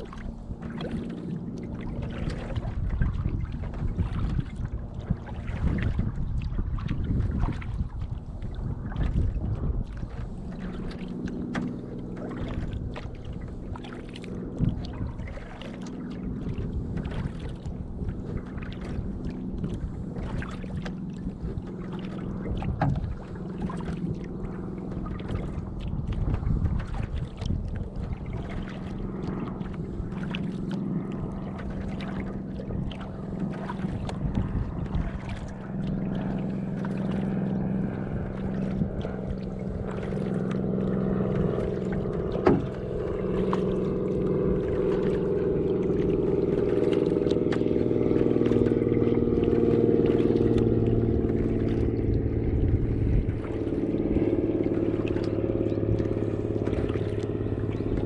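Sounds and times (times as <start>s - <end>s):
low engine hum: 0.0s - 58.0s
paddle splashing water: 0.0s - 58.0s.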